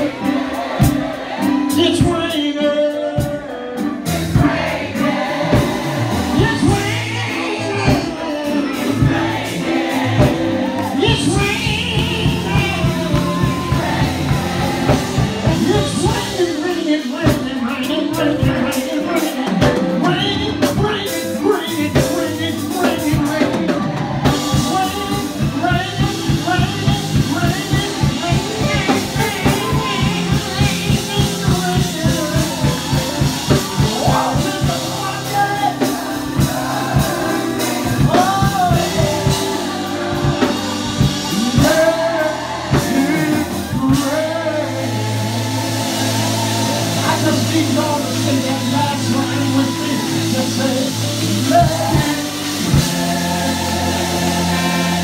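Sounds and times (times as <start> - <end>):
band with fast drum beat: 0.0 - 55.0
people singing: 0.0 - 55.0.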